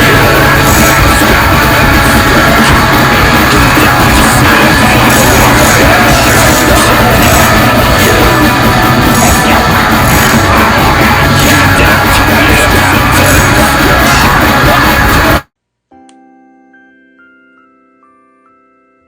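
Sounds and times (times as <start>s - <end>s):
loud dense music with shouted vocals: 0.0s - 15.4s.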